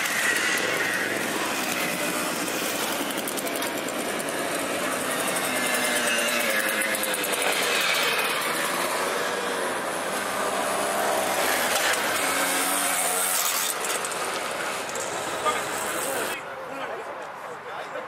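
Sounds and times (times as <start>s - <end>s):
moped engines passing: 0.0s - 16.4s.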